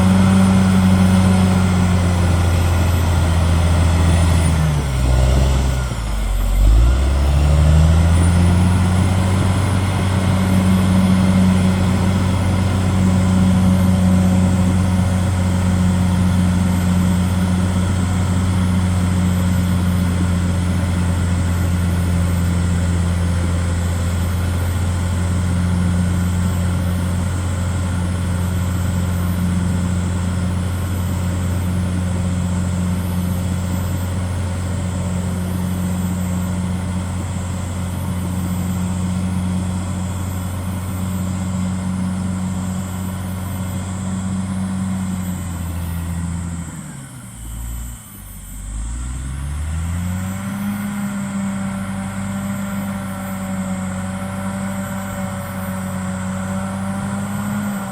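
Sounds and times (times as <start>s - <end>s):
bulldozer diesel engine droning: 0.0s - 57.9s.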